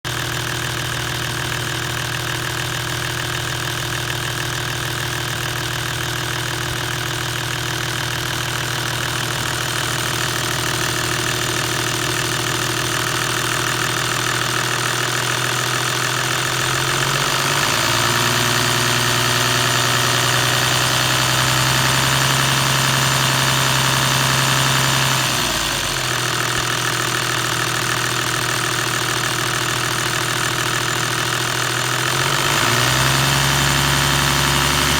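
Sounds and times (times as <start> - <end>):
diesel engine idling with rattle: 0.1 - 34.9.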